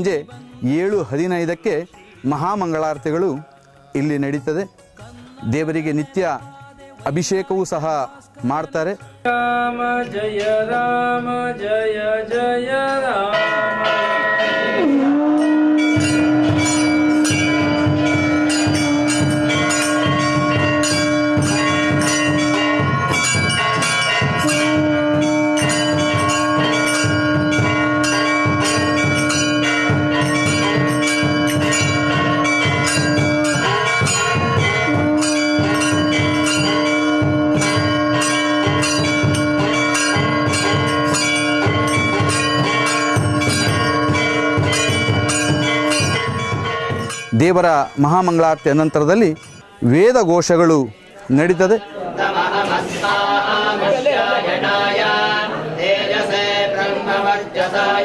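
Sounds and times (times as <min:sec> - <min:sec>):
bells ringing rapidly: 0:00.0 - 0:09.1, 0:13.0 - 0:51.9.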